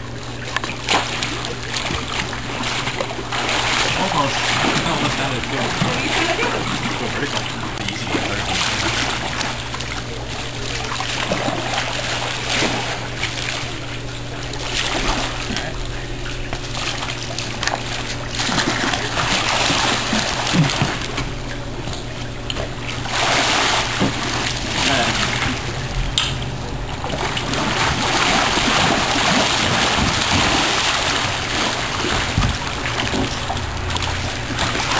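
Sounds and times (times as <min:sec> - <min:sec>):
steady low hum: 0:00.0 - 0:34.9
water splashing around a kayak: 0:00.0 - 0:34.9.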